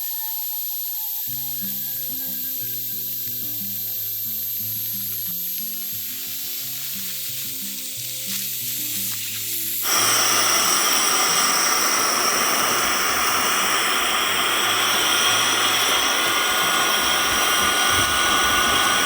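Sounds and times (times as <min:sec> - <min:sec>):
electric air pump whirring: 0:00.0 - 0:19.0
light hiss: 0:02.4 - 0:19.0.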